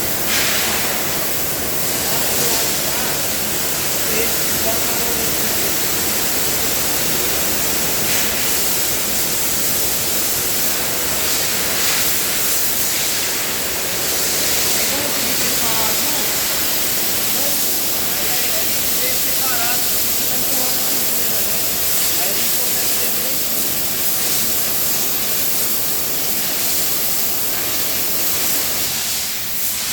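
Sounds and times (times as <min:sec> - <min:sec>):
pressure washer jets hissing: 0:00.0 - 0:29.9.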